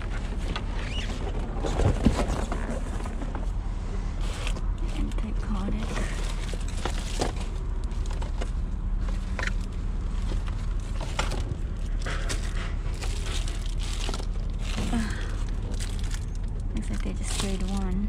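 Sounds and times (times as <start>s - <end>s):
low rumble: 0.0s - 18.0s
plastic bags rustling: 0.0s - 18.0s.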